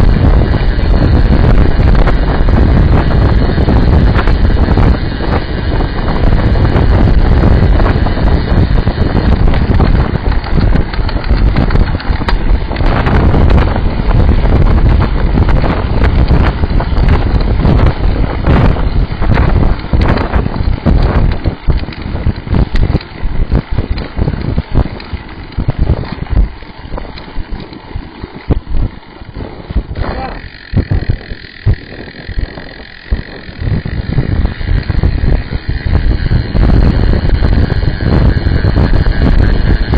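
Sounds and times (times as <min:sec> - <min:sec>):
knocks and rattles from road: 0:00.0 - 0:39.9
wind buffeting microphone: 0:00.0 - 0:39.9.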